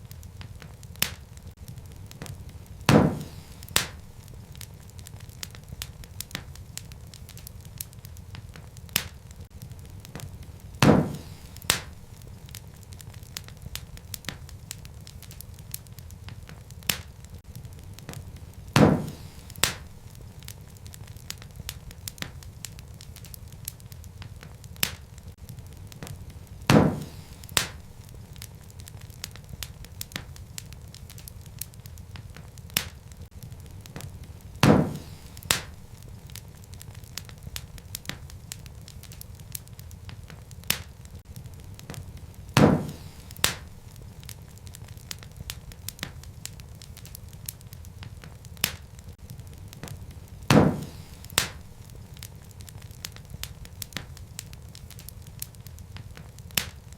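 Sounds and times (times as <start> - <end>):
loud fire pops: 0.0 - 56.9
wood fire crackling: 0.0 - 56.9.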